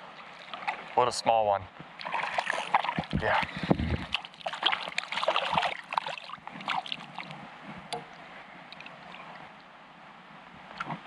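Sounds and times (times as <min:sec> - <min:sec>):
water splashing and sloshing: 0:00.0 - 0:09.8
river flowing: 0:00.0 - 0:10.8.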